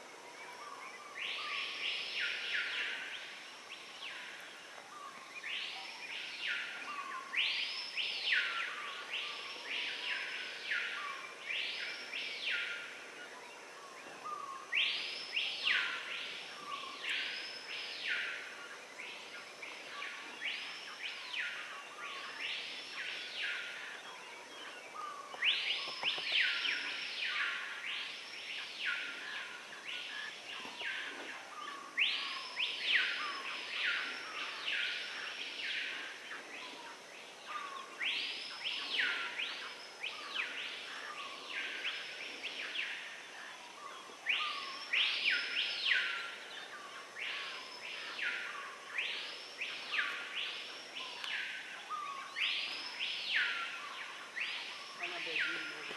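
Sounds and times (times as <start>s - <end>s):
rainforest background: 0.0s - 55.9s.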